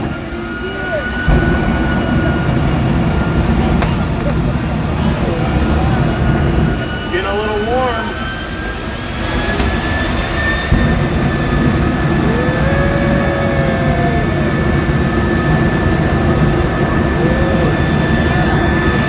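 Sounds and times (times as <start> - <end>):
high turbine whine: 0.0 - 19.0
jet turbine roaring: 0.0 - 19.0.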